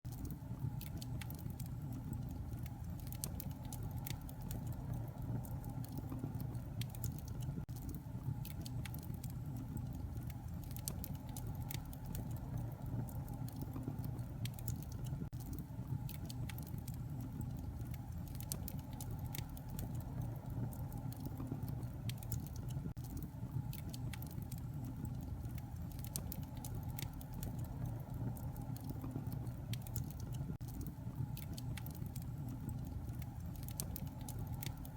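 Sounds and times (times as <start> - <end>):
wood fire crackling: 0.1 - 34.9.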